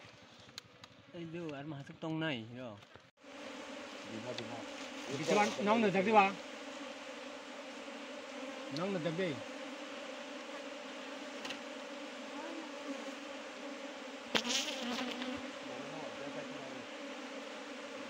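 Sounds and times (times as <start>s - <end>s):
honey bees humming: 3.2s - 18.0s.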